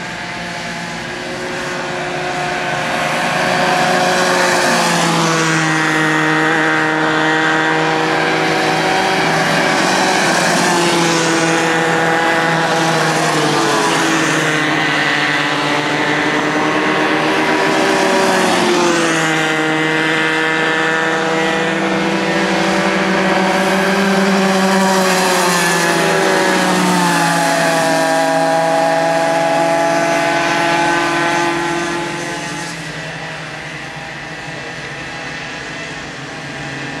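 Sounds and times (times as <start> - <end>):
kart engines racing: 0.0 - 37.0.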